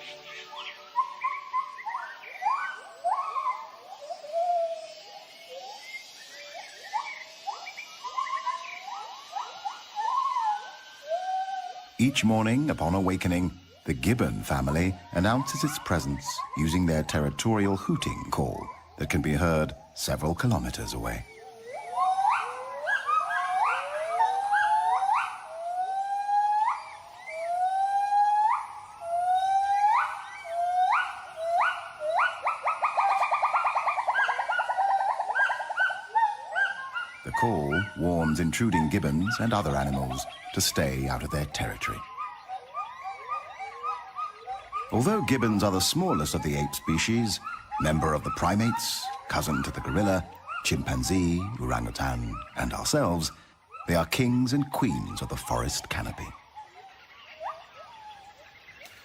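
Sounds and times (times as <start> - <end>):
gibbons hooting: 0.0 - 58.7.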